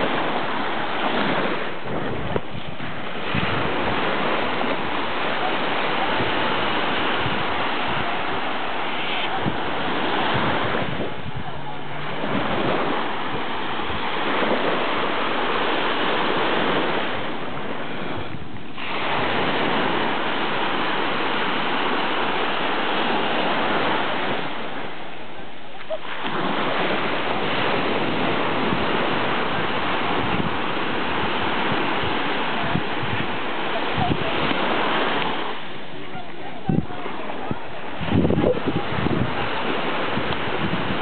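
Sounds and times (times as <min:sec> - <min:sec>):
waves breaking on beach: 0:00.0 - 0:41.0.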